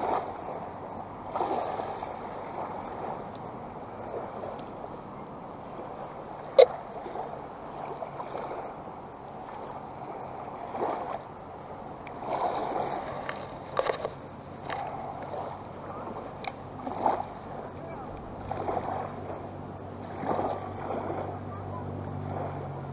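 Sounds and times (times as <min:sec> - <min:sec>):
sea water lapping: 0:00.0 - 0:22.9.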